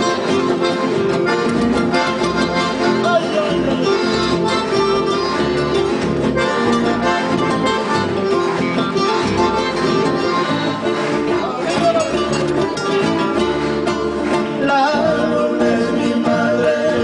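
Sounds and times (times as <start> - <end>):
accordion playing: 0.0 - 17.0
acoustic guitars plucked: 0.0 - 17.0.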